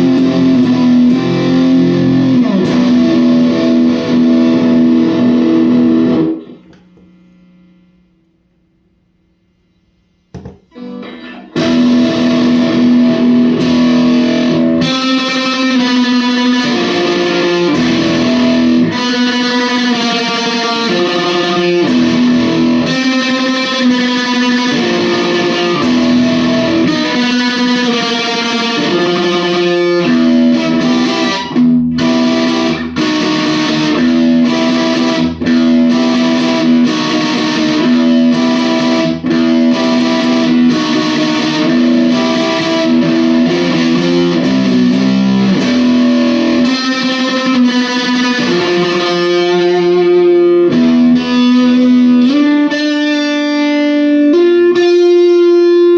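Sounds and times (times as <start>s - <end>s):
distorted electric guitar riff: 0.0s - 8.0s, 10.4s - 55.9s.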